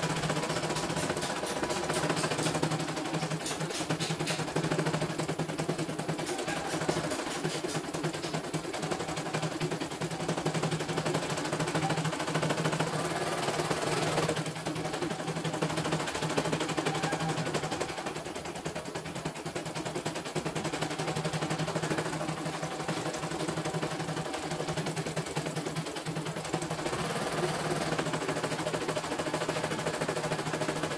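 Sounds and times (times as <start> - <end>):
embroidery machine needle clatter: 0.0 - 30.9.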